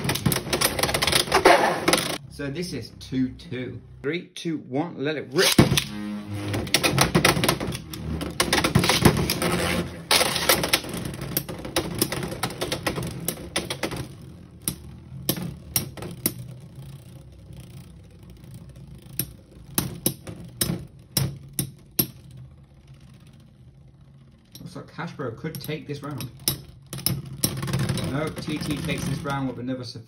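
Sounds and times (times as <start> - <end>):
spinning tops whirring: 0.0 - 2.2, 5.3 - 29.7.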